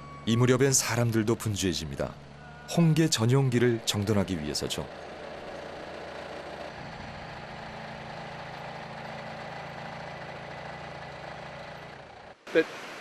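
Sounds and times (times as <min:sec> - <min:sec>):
diesel engine idling: 0:00.0 - 0:12.6.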